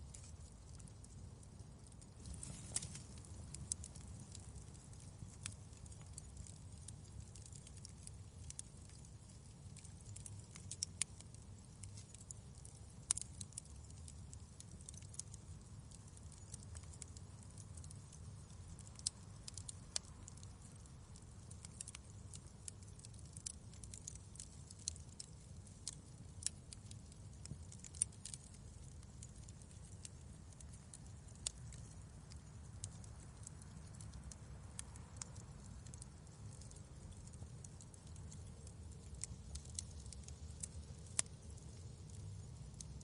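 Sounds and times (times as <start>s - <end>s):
faint low rumble: 0.0s - 43.0s
fireplace fire crackling: 0.0s - 43.0s.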